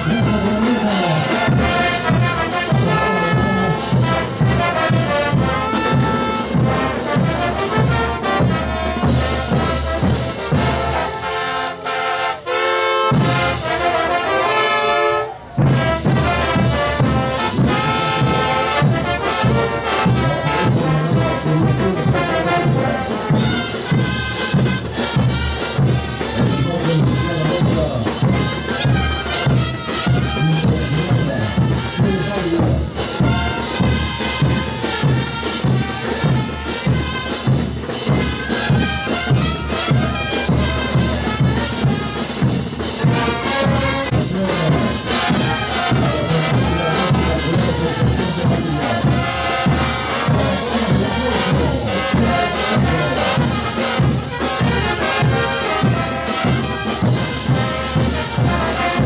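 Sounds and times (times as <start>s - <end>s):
bass drum beats: 0.0s - 11.0s, 15.5s - 59.0s
brass band playing: 0.0s - 59.0s.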